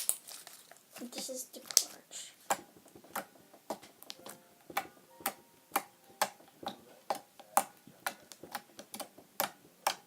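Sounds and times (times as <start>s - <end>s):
crunchy slime crackling: 0.0s - 10.0s.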